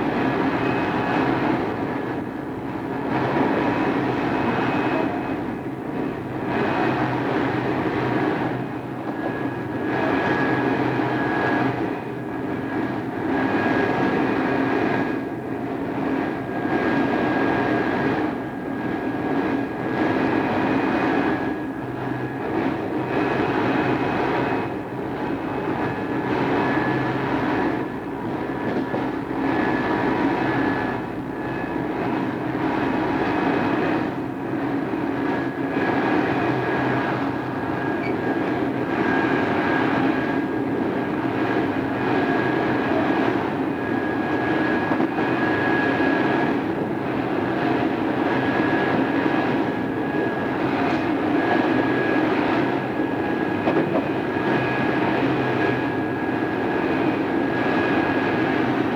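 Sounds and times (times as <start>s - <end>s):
train wheel and rail rumble: 0.0s - 58.9s.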